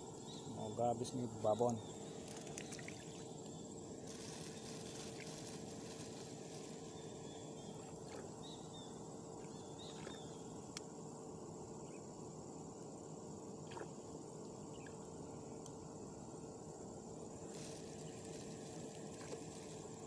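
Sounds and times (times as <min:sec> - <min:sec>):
steady hiss: 0:00.0 - 0:07.8, 0:10.2 - 0:20.0
insects droning: 0:00.0 - 0:20.0.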